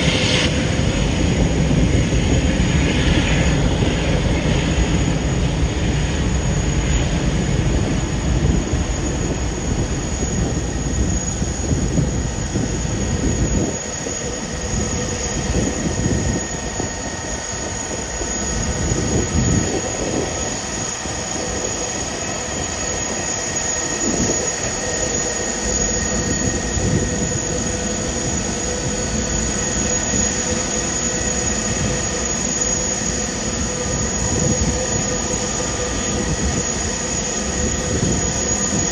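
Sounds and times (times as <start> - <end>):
jet engine deep rumble: 0.0 - 38.9
jet engine high whine: 0.0 - 38.9.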